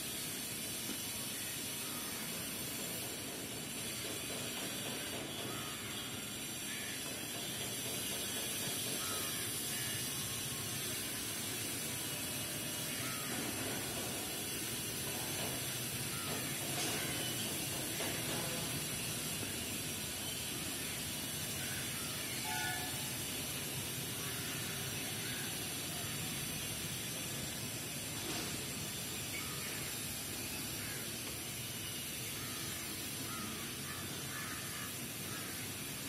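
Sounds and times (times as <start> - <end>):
outdoor background hiss: 0.0 - 36.0.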